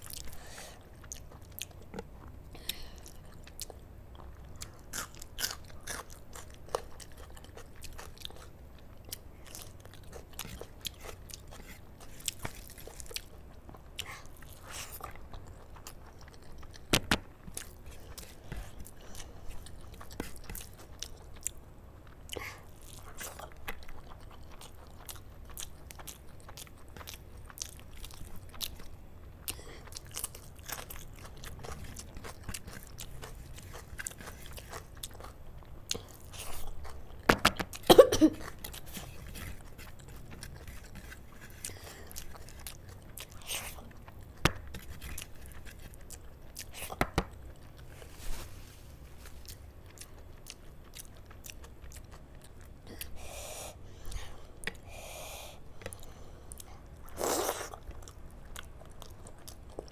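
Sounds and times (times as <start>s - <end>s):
close chewing mouth clicks and smacks: 3.0s - 47.9s, 55.8s - 59.9s.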